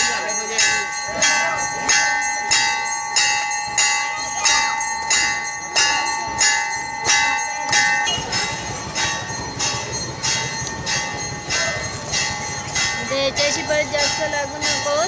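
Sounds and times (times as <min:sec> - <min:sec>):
temple bell ringing: 0:00.0 - 0:15.0.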